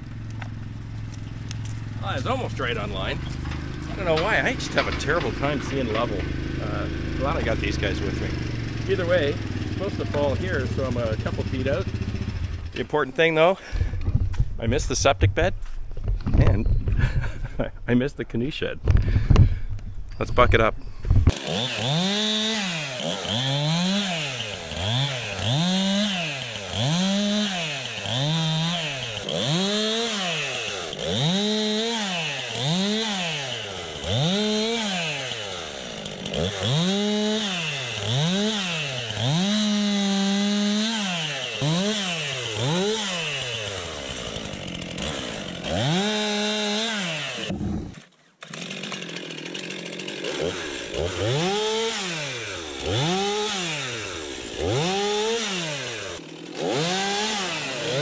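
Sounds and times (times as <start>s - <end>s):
chainsaw cutting wood revving: 0.0s - 17.9s, 18.8s - 58.0s.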